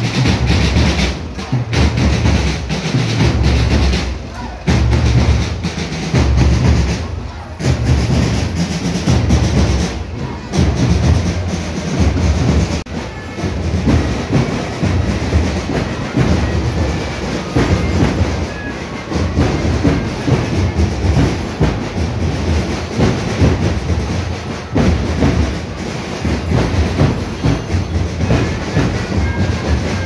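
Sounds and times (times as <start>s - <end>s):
lorry diesel engines rumbling: 0.0s - 30.0s.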